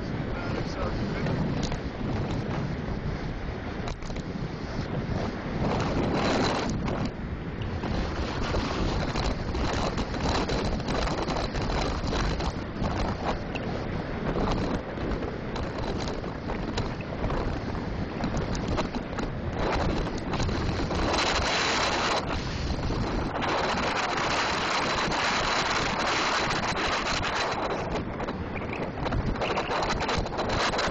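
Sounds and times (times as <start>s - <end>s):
wind rushing over microphone: 0.0s - 30.9s.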